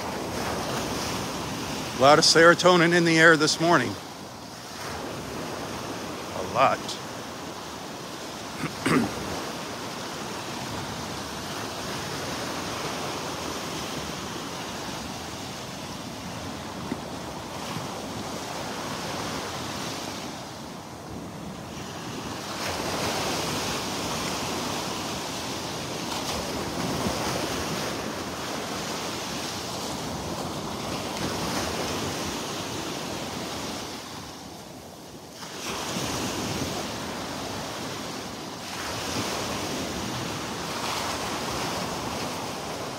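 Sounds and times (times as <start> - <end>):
surf washing onto beach: 0.0 - 42.9.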